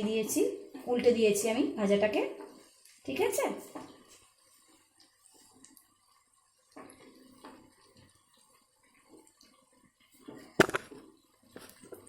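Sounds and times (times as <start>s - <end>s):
snacks shallow-frying: 2.3s - 12.0s.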